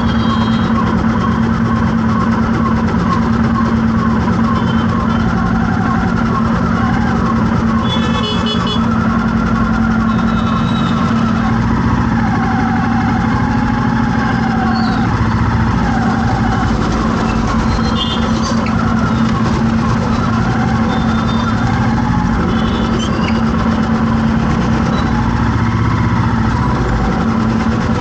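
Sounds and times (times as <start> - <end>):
vehicle engines humming in traffic: 0.0 - 28.0.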